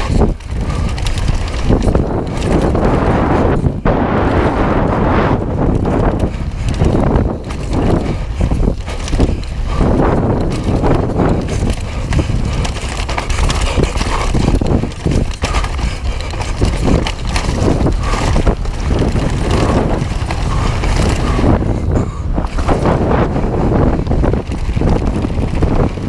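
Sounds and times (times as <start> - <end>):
bike rattling and knocking: 0.0 - 26.0
tyres running over loose dirt: 0.0 - 26.0
wind rumble on microphone: 0.0 - 26.0.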